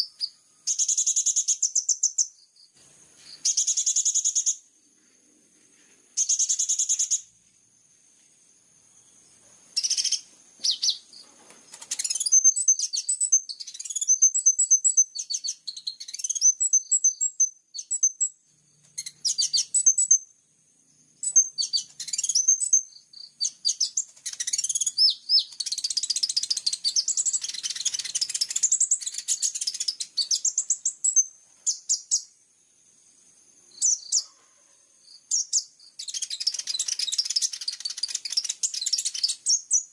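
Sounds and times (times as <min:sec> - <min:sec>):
songbird chirping and trilling: 0:00.0 - 0:07.6, 0:08.9 - 0:39.9.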